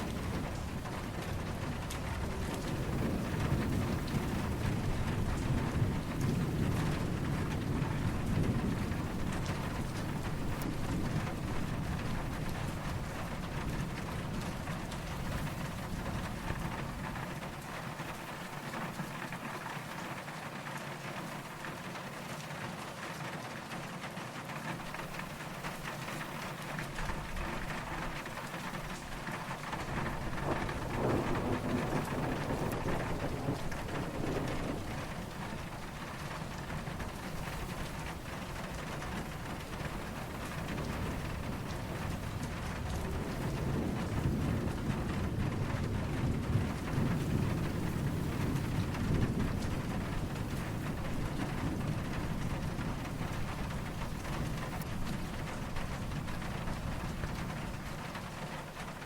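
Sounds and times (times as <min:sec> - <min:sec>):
distant thunder rumbling: 0:00.0 - 0:20.4, 0:24.8 - 0:59.0
steady rain falling: 0:00.0 - 0:59.0.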